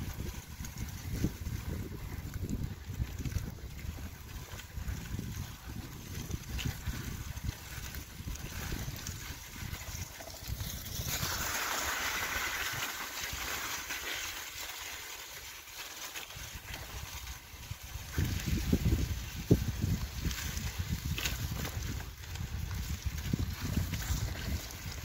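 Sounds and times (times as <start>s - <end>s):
wind rumbling on microphone: 0.0s - 14.3s, 16.2s - 25.0s
bicycle tyres rolling through slush: 0.0s - 25.0s.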